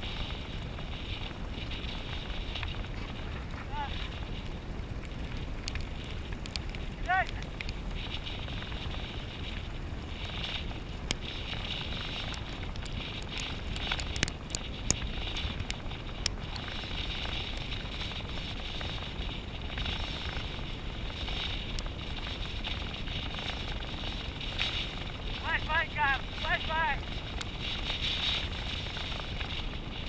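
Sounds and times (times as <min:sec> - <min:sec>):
bike rattling over rocks: 0:00.0 - 0:30.0
tyres crackling on stony trail: 0:00.0 - 0:30.0
wind buffeting microphone: 0:00.0 - 0:30.0.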